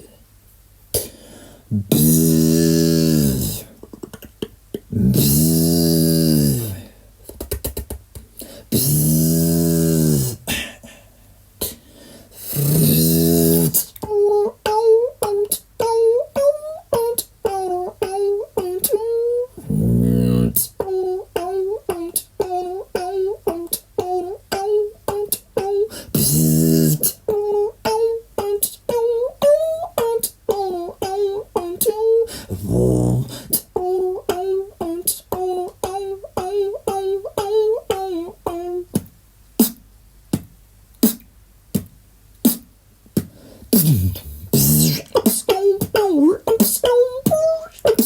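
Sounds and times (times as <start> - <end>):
vocal beatbox clicks and percussion: 1.7 - 10.4, 12.4 - 19.0, 19.6 - 48.0.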